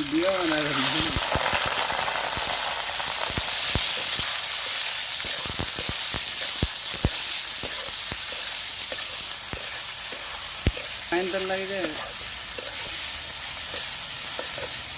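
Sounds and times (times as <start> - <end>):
food sizzling in hot oil: 0.0 - 14.9.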